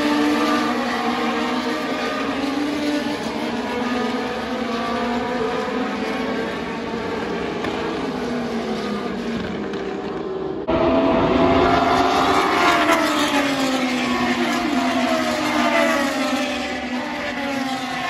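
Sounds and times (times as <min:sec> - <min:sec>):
racing car engines at high revs: 0:00.0 - 0:18.0
racing car passing close by: 0:00.0 - 0:18.0.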